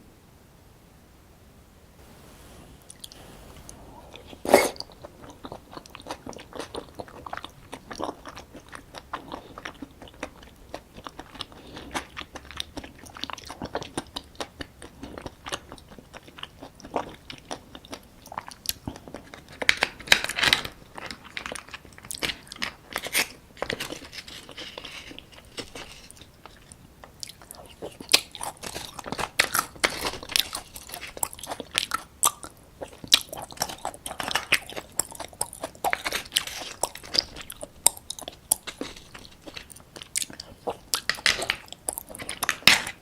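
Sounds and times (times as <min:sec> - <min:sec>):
crab shell crunching: 0:02.8 - 0:43.0
wet chewing: 0:02.8 - 0:43.0.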